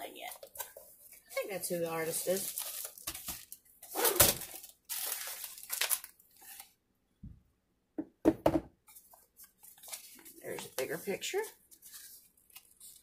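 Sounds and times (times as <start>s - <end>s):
plastic wrapping crinkling: 0.0s - 6.8s, 8.9s - 13.0s.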